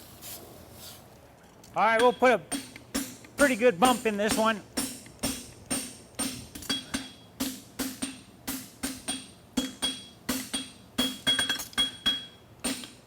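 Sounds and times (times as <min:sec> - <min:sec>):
anvil ringing: 0:01.9 - 0:12.9
hammer striking steel on anvil: 0:01.9 - 0:13.0.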